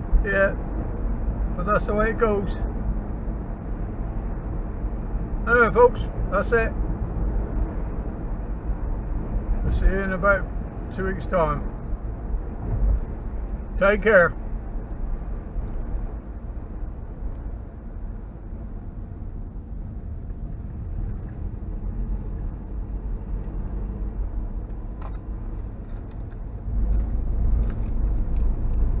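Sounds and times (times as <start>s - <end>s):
vehicle rumble from inside cab: 0.0s - 29.0s.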